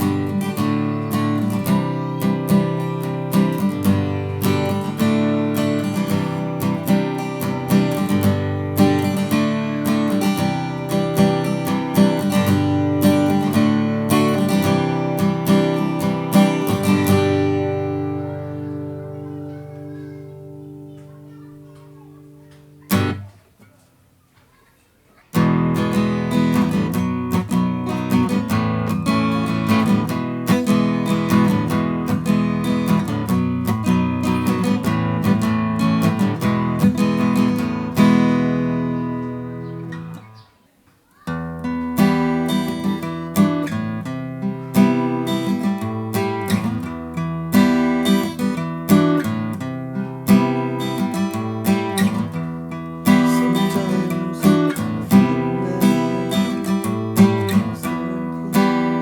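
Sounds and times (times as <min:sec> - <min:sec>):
acoustic guitar playing: 0:00.0 - 0:24.4, 0:25.2 - 0:59.0.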